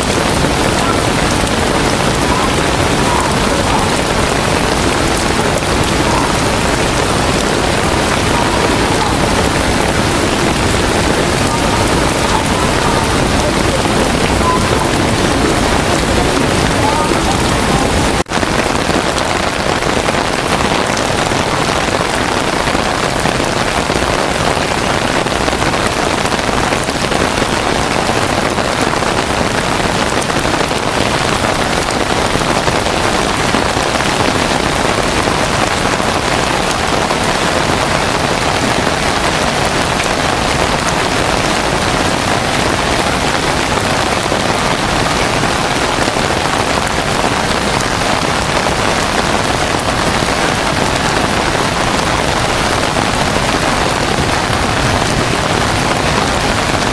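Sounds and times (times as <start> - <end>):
torrential rain pouring: 0.0 - 56.9.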